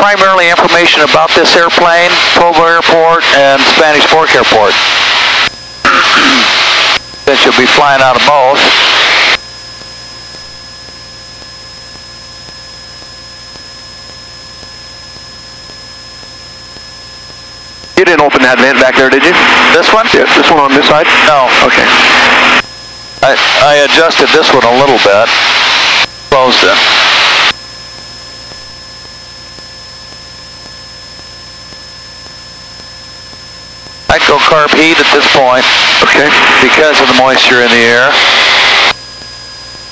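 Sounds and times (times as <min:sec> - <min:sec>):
aircraft cabin engine drone: 0:00.0 - 0:39.9
thin high whine: 0:00.0 - 0:39.9.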